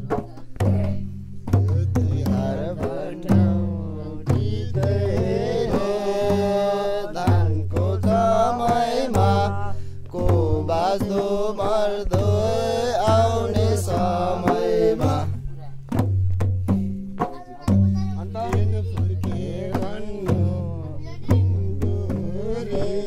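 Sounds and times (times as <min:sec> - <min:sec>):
voices singing folk song: 0:00.0 - 0:16.1, 0:17.2 - 0:23.0
sharp percussive knocks: 0:00.0 - 0:23.0.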